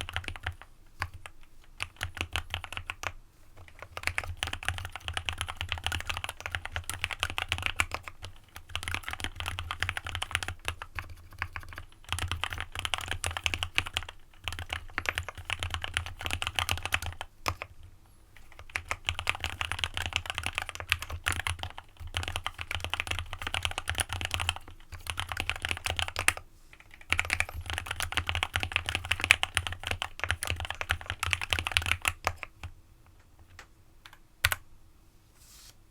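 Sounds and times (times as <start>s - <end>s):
fast typing on mechanical keyboard: 0.0s - 17.8s, 18.4s - 32.7s.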